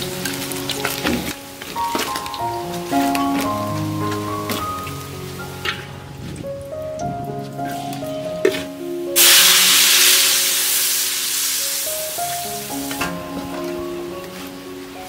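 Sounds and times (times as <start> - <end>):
loud sizzling in a wok: 0.0 - 6.4, 7.6 - 15.0
background music: 0.0 - 15.0.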